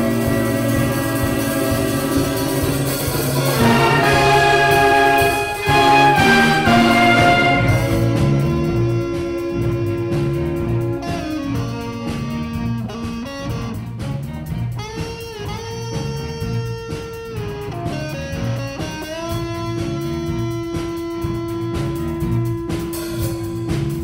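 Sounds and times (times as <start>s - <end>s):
band playing: 0.0s - 24.0s
electric guitar lead melody: 0.0s - 24.0s.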